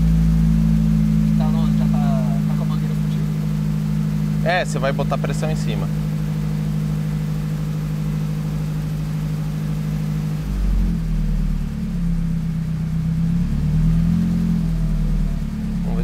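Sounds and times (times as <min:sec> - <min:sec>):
turbocharged car engine running: 0:00.0 - 0:16.0.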